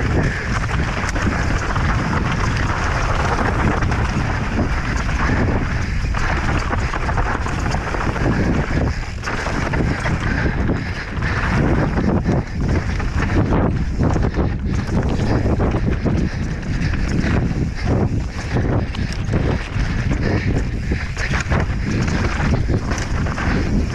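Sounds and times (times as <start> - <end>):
bike rattling and knocking: 0.0 - 23.9
wind rushing over microphone: 0.0 - 23.9.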